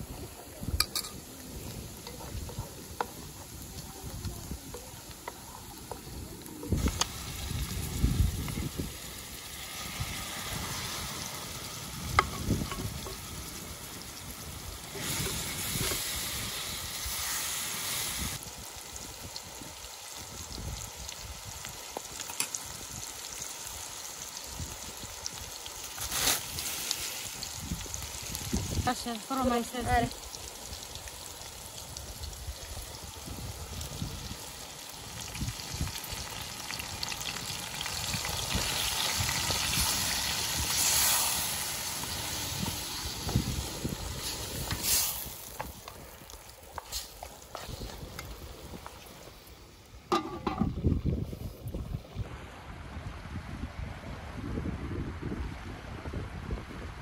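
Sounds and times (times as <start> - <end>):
food sizzling in a pan: 0.0 - 51.8.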